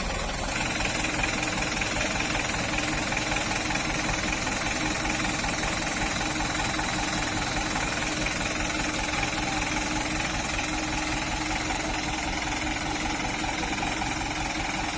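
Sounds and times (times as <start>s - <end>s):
diesel truck engine running: 0.0s - 14.9s.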